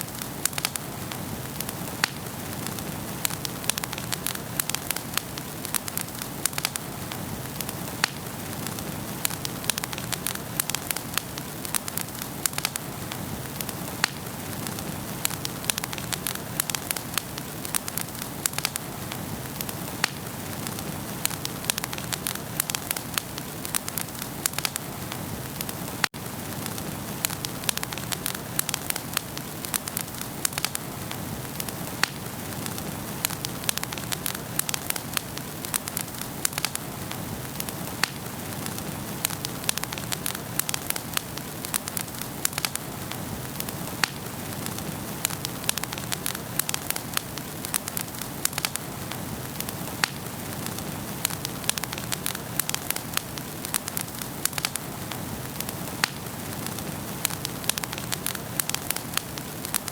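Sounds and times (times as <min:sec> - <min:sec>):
burning wood crackling and popping: 0:00.0 - 0:59.9
fire hissing: 0:00.0 - 0:59.9.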